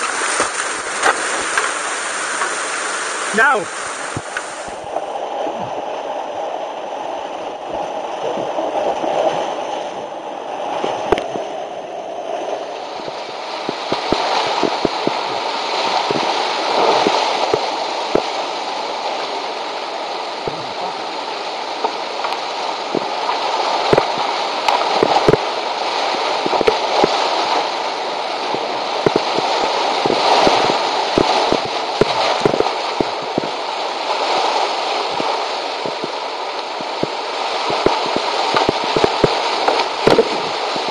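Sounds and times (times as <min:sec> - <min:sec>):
water splashes and slaps: 0:00.0 - 0:05.8, 0:10.8 - 0:11.5, 0:12.7 - 0:40.9
roaring whitewater: 0:00.0 - 0:40.9.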